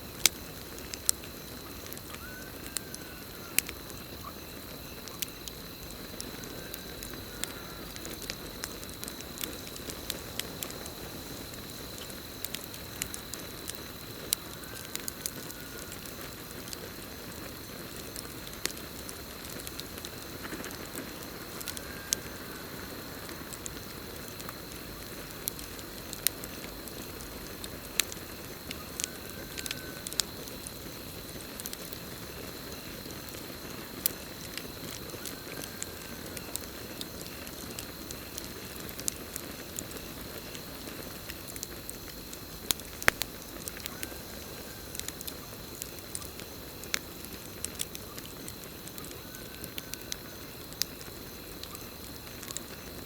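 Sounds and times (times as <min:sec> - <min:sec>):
campfire crackling and popping: 0:00.0 - 0:53.0
high cricket trill: 0:00.0 - 0:53.0
low hiss of flames: 0:00.0 - 0:53.0.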